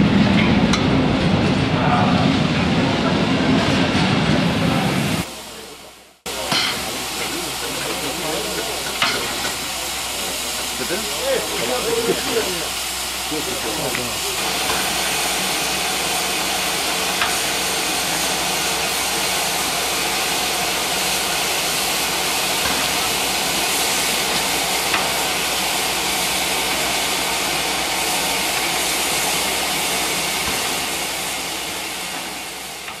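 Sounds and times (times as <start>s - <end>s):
steam locomotive hissing: 1.5s - 33.0s.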